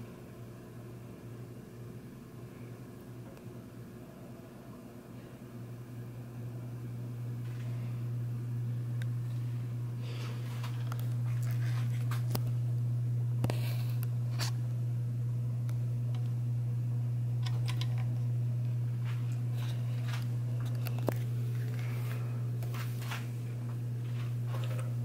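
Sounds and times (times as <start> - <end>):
ceiling fan motor humming: 0.0 - 25.0.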